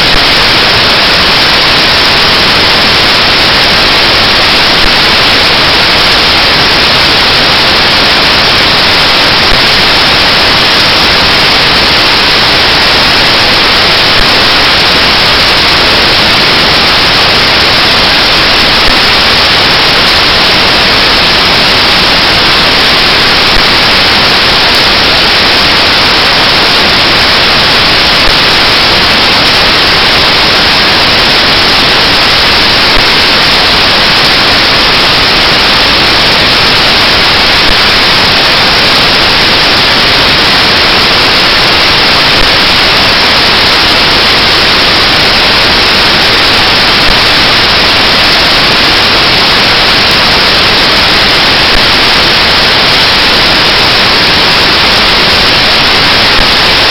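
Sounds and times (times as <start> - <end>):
loud static hiss: 0.0 - 56.9.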